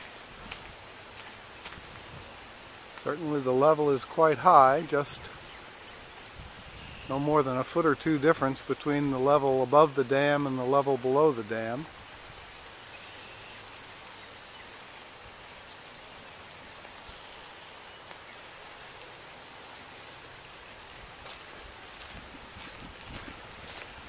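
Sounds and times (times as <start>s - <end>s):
water running through a dam: 0.0s - 24.0s.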